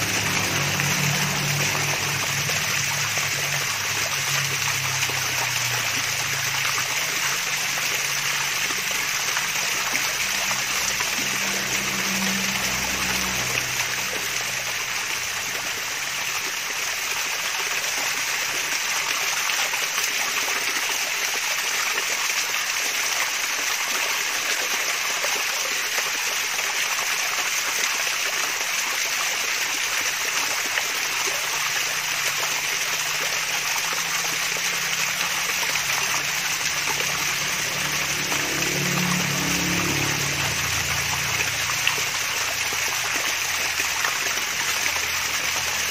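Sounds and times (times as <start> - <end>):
small waterfall splashing: 0.0 - 45.9.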